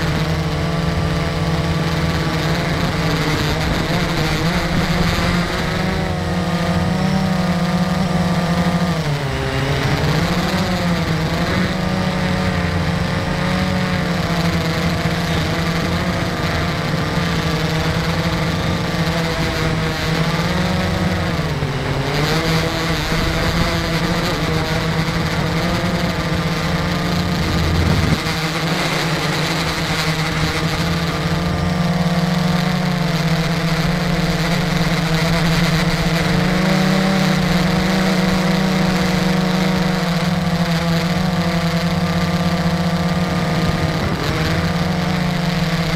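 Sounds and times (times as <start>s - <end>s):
drone propellers humming: 0.0s - 45.9s.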